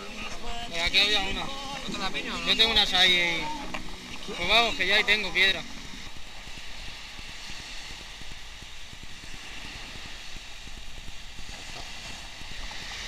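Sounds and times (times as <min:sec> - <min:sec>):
surf hissing on shore: 0:00.0 - 0:13.0
wind buffeting microphone: 0:00.0 - 0:13.0.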